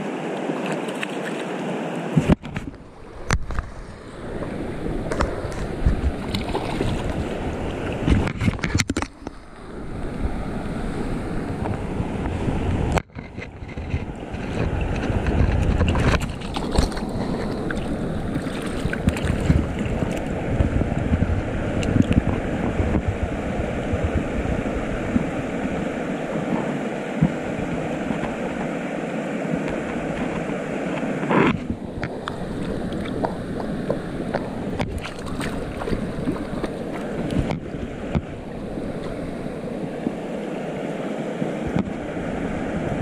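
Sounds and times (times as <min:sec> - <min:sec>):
river water rushing over rocks: 0:00.0 - 0:43.0
wind buffeting microphone: 0:02.1 - 0:43.0.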